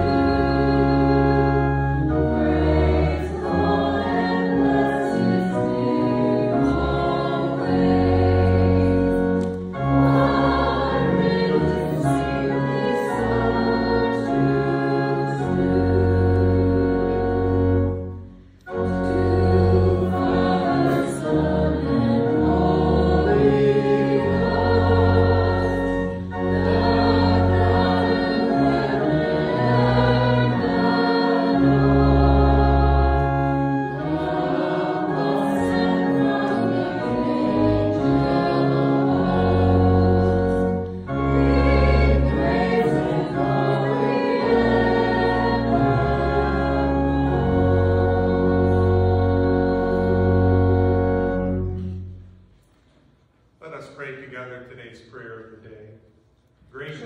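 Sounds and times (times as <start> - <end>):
congregation singing a hymn: 0.0 - 52.2
organ chords: 0.0 - 52.7.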